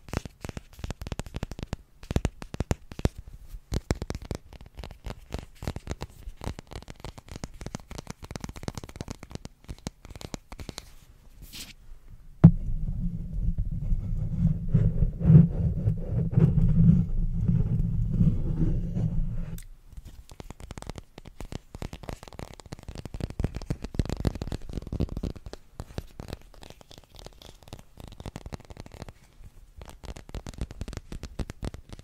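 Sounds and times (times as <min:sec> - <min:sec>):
hands rubbing microphone: 0:00.1 - 0:11.8, 0:13.0 - 0:32.0.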